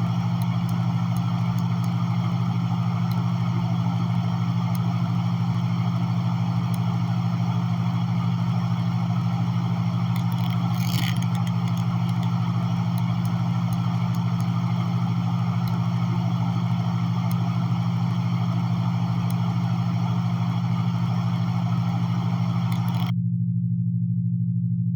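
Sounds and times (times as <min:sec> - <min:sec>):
steady low hum: 0:00.0 - 0:23.1.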